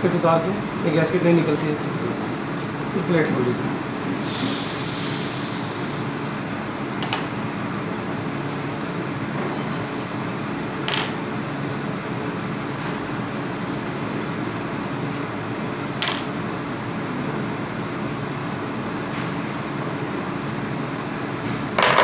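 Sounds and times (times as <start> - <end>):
machinery hum: 0.0 - 22.0.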